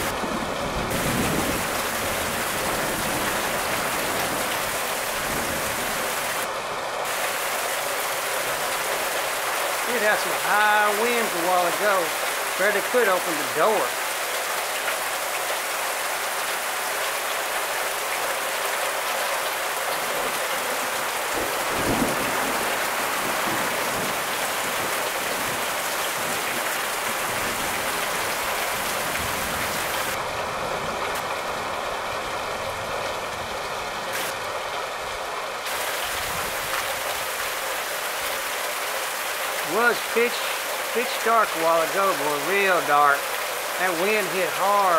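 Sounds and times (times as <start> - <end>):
heavy rain on trees and grass: 0.0 - 44.9.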